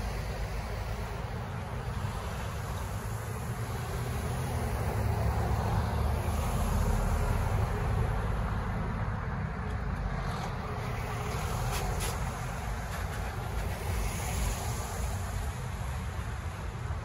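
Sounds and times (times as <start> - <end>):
cars driving past: 0.0 - 17.0.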